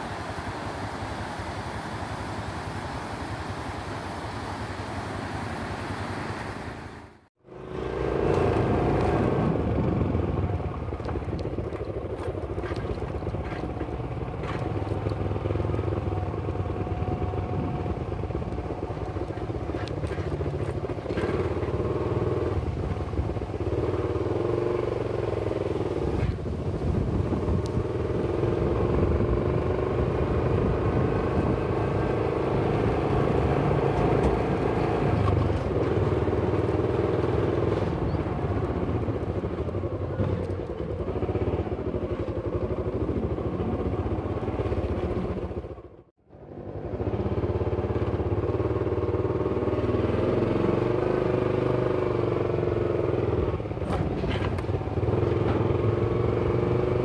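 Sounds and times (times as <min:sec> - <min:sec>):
motorcycle engine running: 0:07.1 - 0:57.0.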